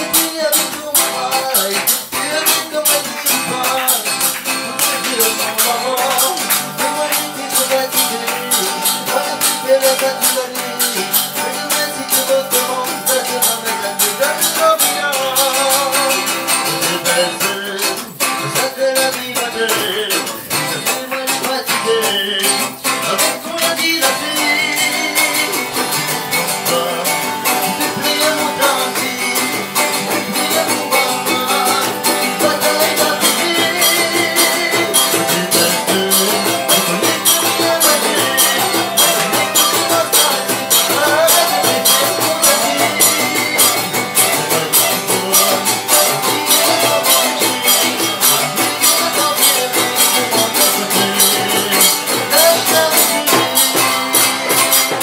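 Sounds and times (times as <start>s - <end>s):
person singing: 0.0s - 55.0s
rattling percussion beat: 0.0s - 55.0s.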